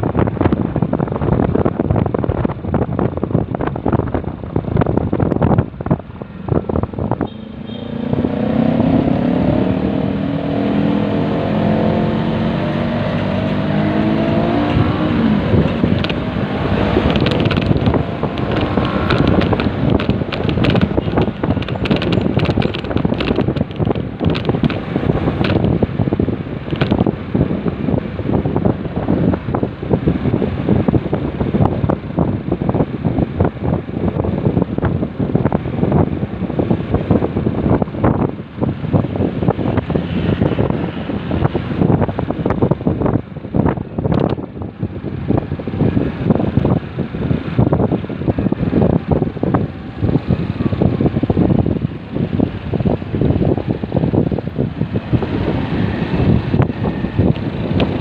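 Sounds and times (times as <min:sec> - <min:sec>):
road and vehicle noise: 0:00.0 - 0:58.0
wind noise on microphone: 0:00.0 - 0:58.0.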